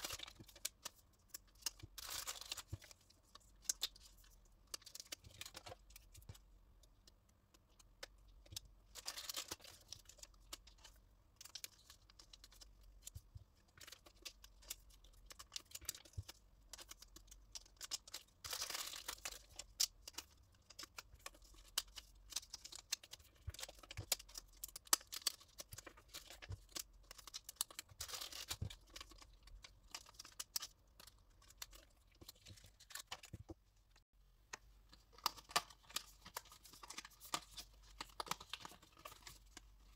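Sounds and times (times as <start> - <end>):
plastic sleeves crinkling: 0.0 - 6.4, 7.6 - 34.0, 34.9 - 39.9.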